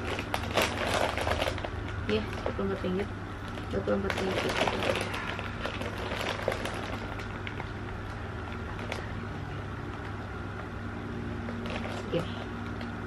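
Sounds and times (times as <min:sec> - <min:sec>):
plastic packet rustling: 0:00.0 - 0:10.1, 0:11.4 - 0:12.9
low room hum: 0:00.0 - 0:13.0.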